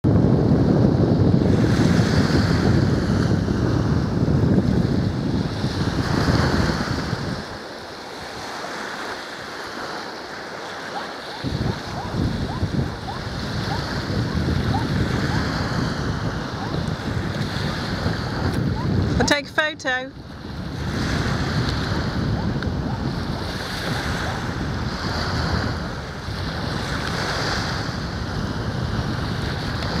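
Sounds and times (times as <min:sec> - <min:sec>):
wind buffeting microphone: 0:00.0 - 0:30.0
small waves washing onto beach: 0:00.1 - 0:30.0
surf rushing: 0:00.1 - 0:30.0.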